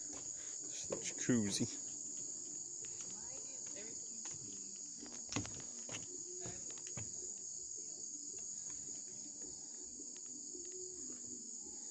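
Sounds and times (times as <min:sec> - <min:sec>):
insects trilling: 0:00.0 - 0:11.9.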